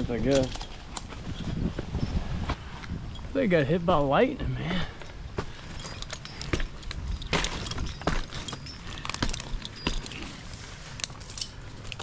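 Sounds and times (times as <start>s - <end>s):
metal climbing gear jingling: 0.0s - 2.2s, 2.8s - 12.0s.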